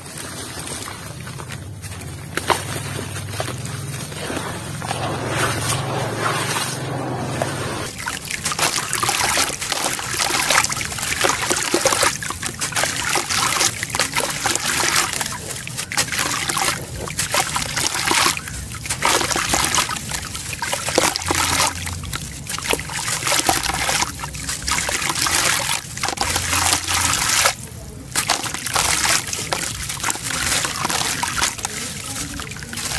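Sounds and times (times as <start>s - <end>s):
crunchy crackling of cement chunks: 0.0s - 32.9s
water splashing and trickling: 0.0s - 32.9s.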